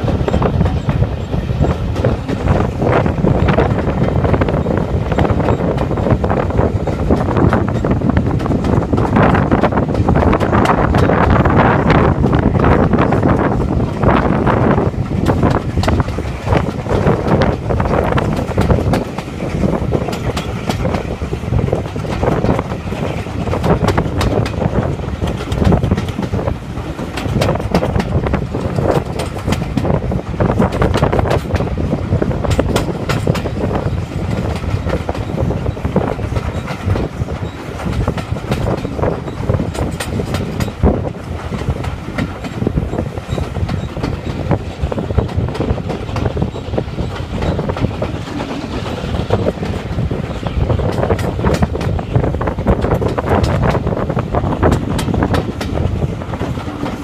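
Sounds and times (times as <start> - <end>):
train running noise: 0.0 - 57.0
wheels clicking over rail joints: 0.0 - 57.0.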